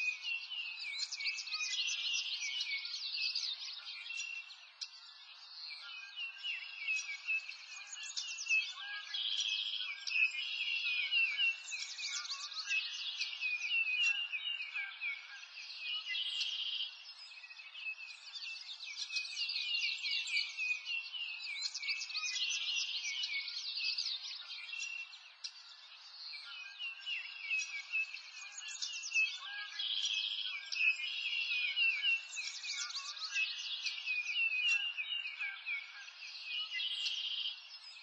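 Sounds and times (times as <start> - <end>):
small birds chirping and trilling: 0.0 - 38.0.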